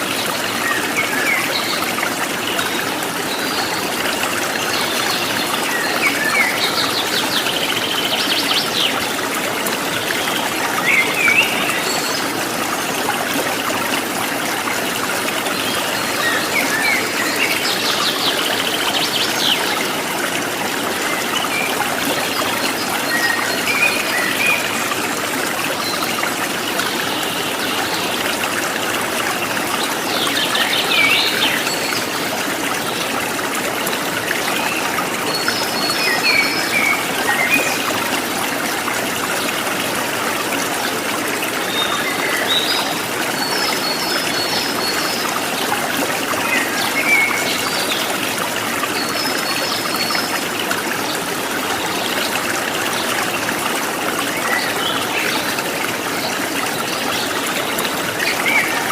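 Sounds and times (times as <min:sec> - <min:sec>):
water trickling: 0:00.0 - 0:58.9.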